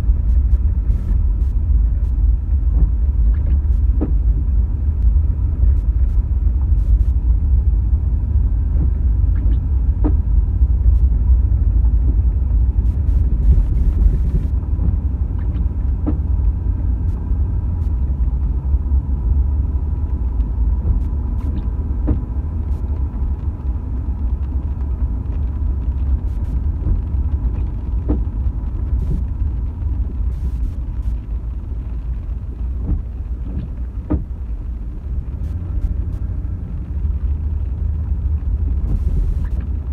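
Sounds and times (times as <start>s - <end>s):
car road rumble from inside: 0.0s - 39.9s.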